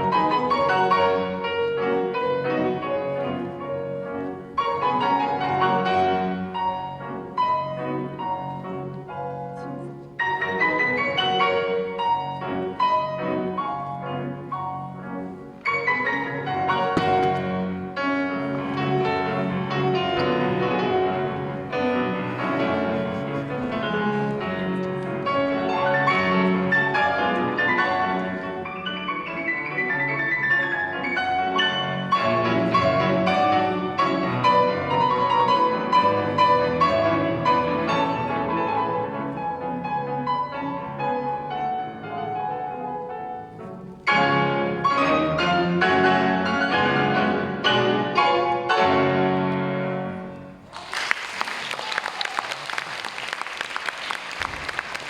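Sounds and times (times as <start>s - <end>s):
piano duet classical music: 0.0s - 50.8s.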